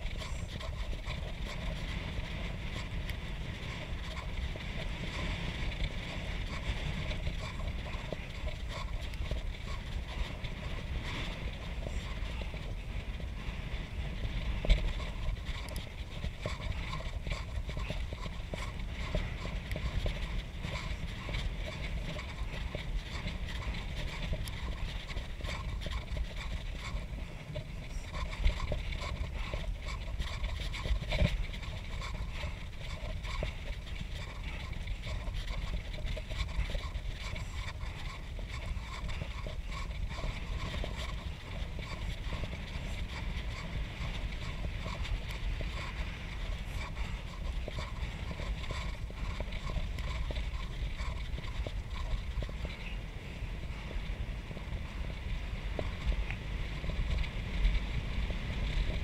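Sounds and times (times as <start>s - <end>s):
bicycle rattling: 0.0s - 59.0s
bicycle tyres rumbling: 0.0s - 59.0s
wind rushing over microphone: 0.0s - 59.0s.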